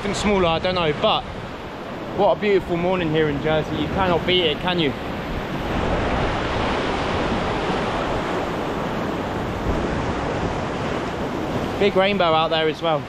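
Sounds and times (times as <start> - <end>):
surf breaking on rocky shore: 0.0 - 13.0.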